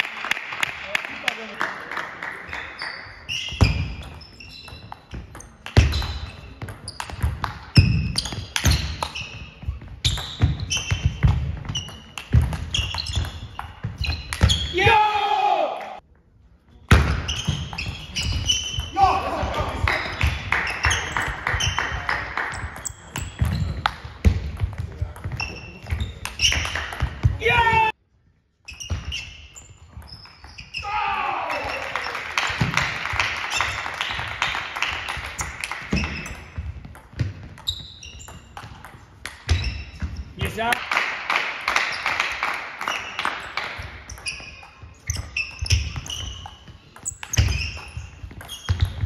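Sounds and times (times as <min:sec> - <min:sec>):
shoes squeaking on floor: 0:02.5 - 0:15.0, 0:17.0 - 0:40.7, 0:41.7 - 0:49.0.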